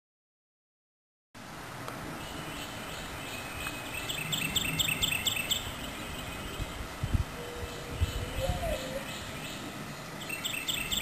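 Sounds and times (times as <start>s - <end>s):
songbird chirping: 2.1s - 11.0s.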